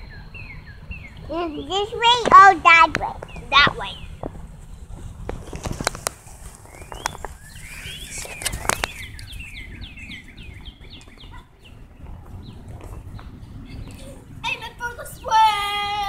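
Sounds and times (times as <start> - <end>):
low rumble: 0.0 - 16.0
songbird singing: 0.0 - 16.0.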